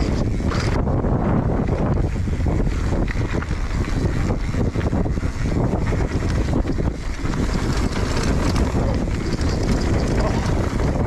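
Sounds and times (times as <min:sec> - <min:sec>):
bike rattling: 0:00.0 - 0:11.0
wind buffeting microphone: 0:00.0 - 0:11.0
tyres crunching on gravel: 0:01.8 - 0:10.9.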